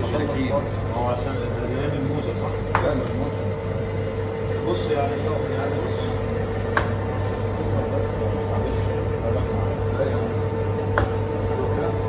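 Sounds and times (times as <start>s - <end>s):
meat grinder motor humming: 0.0s - 12.0s.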